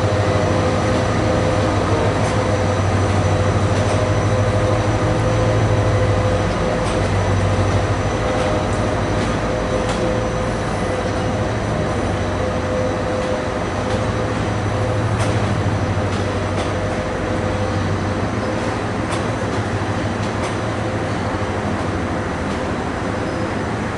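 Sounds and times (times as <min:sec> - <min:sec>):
train wheels rumbling: 0:00.0 - 0:23.9.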